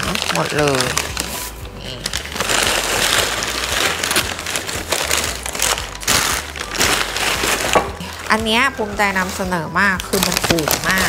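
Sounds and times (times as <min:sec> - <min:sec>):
packing paper crumpling: 0:00.0 - 0:11.0.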